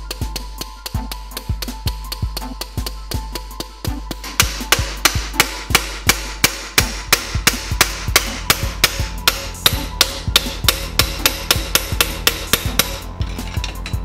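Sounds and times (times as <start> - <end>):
rapid hammer blows on metal: 0.0 - 13.6
background music: 0.0 - 14.0.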